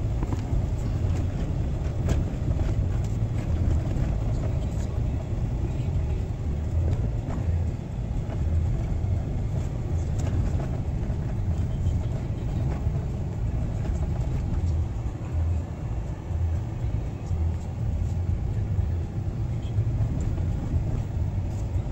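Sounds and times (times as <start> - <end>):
engine running with low rumble: 0.0 - 21.9.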